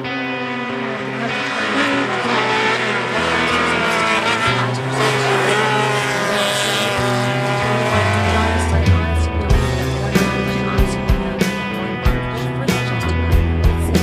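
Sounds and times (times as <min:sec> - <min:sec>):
music with bass line: 0:00.0 - 0:14.0
rally car engine revving: 0:00.0 - 0:14.0.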